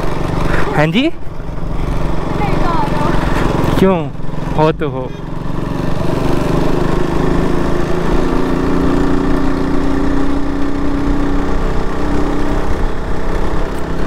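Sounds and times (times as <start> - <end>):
motorcycle engine droning: 0.0 - 14.0.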